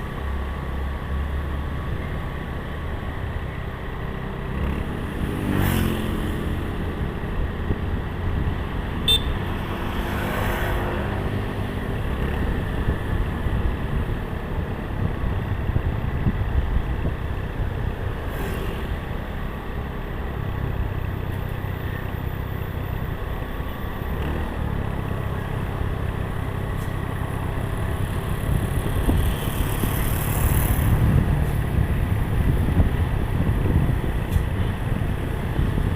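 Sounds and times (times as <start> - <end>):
heavy traffic rumble: 0.0 - 35.9.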